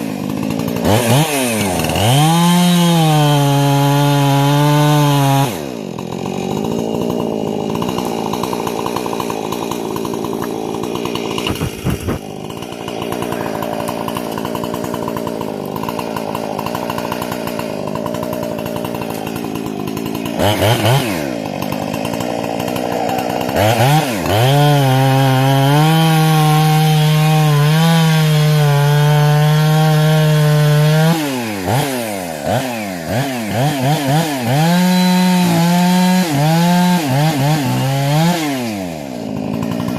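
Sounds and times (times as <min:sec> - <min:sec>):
chainsaw cutting and revving: 0:00.0 - 0:39.9.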